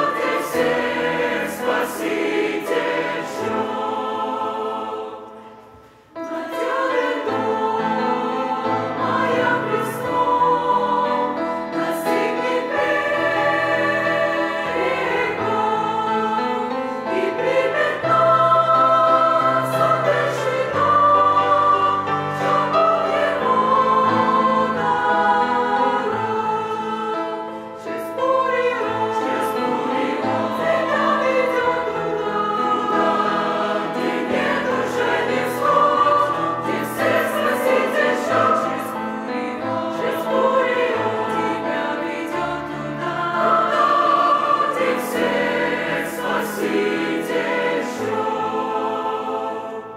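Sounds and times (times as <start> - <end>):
church choir singing a hymn: 0.0 - 49.9.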